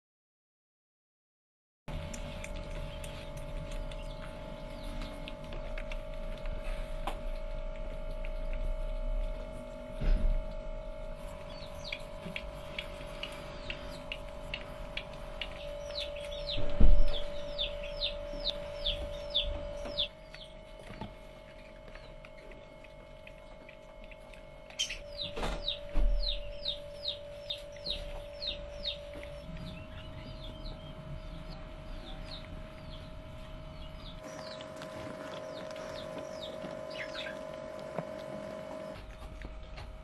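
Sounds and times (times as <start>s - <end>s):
steady hum: 1.9s - 40.0s
baby hedgehogs squeaking: 2.4s - 8.6s, 11.2s - 39.4s.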